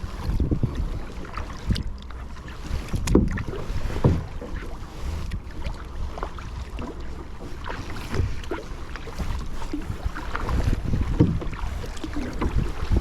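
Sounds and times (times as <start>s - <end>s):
paddle splashing in water: 0.0s - 13.0s
wind rumble on microphone: 0.0s - 13.0s.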